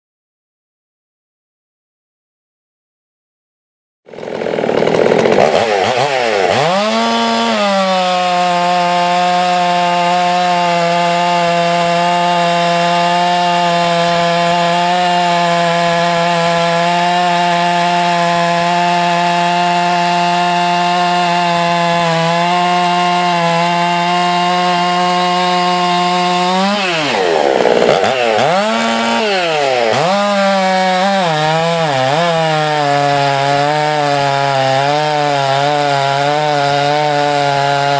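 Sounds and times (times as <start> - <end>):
chainsaw cutting log: 4.1 - 37.9.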